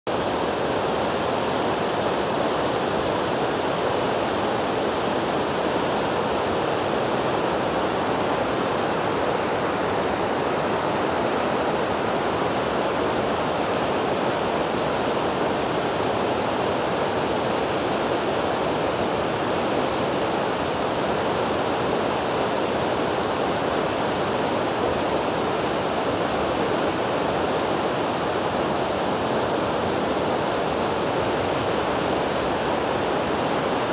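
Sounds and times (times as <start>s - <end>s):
water rushing through sluice gates: 0.1s - 33.9s.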